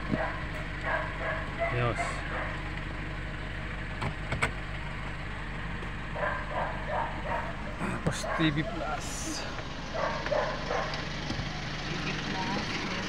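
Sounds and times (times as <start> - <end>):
car engine idling rumble: 0.0 - 13.0.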